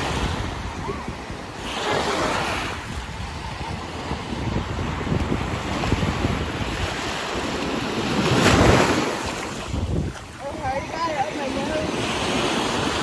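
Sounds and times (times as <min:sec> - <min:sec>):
surf washing up a beach: 0:00.0 - 0:13.0
wind buffeting microphone: 0:00.0 - 0:13.0.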